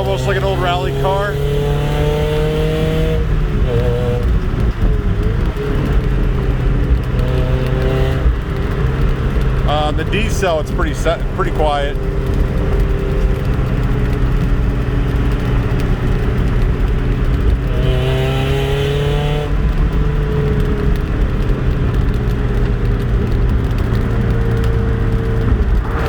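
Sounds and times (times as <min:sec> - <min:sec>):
car engine and exhaust: 0:00.0 - 0:26.0.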